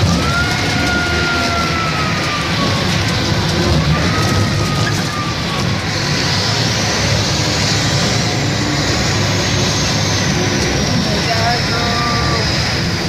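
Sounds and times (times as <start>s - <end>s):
diesel truck engine rumble: 0.0s - 13.0s.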